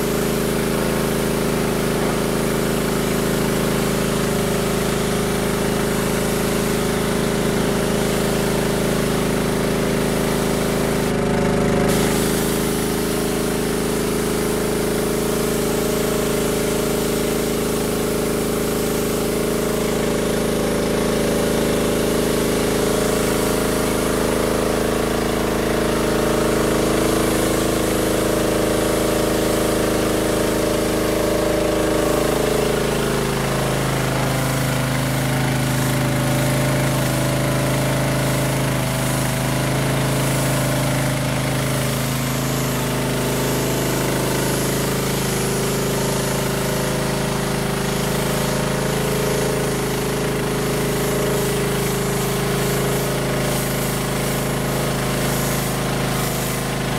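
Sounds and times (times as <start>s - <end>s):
pressure washer engine drone: 0.0s - 56.9s
water spray hissing: 0.0s - 56.9s.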